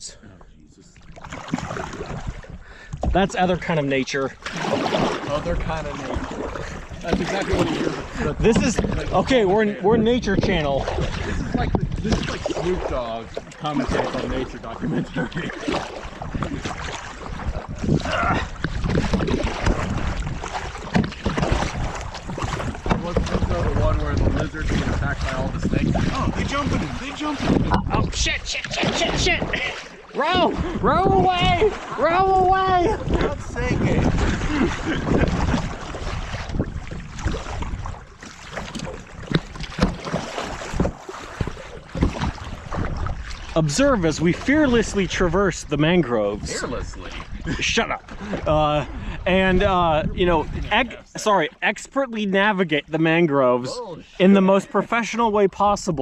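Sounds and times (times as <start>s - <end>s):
paddle splashing water: 0.9s - 56.0s
wind buffeting microphone: 1.3s - 3.6s, 4.6s - 51.1s.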